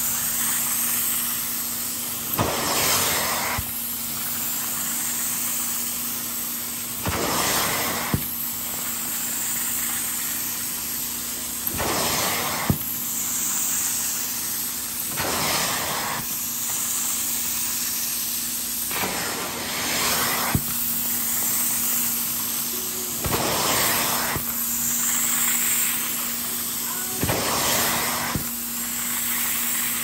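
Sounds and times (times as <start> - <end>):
extractor suction rush: 0.0 - 3.8, 7.0 - 10.3, 11.6 - 30.0
loud hissing surge: 0.0 - 30.0.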